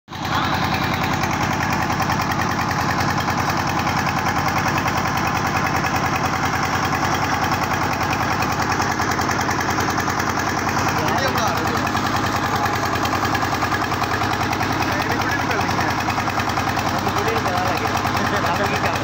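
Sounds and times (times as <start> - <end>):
diesel engine chugging: 0.1 - 19.0.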